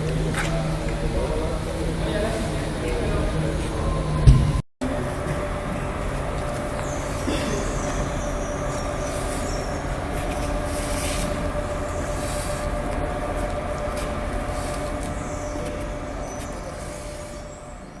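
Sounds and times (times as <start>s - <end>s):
engine drone with hiss: 0.0s - 18.0s.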